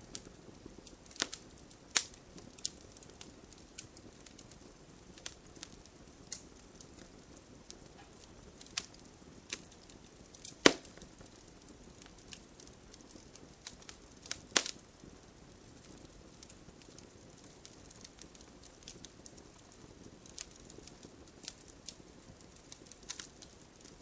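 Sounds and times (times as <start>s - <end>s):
rain hiss: 0.0s - 20.3s
wood fire crackling and popping: 0.0s - 24.0s.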